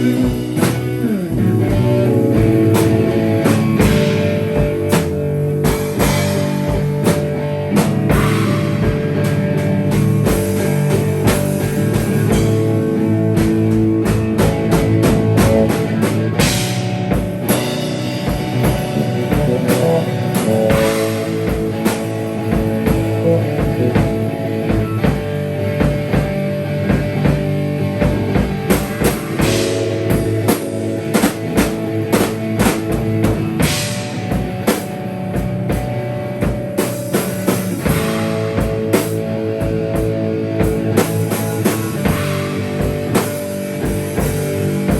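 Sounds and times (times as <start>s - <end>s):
busy drumming: 0.0s - 44.9s
sustained electric guitar notes: 0.0s - 44.9s.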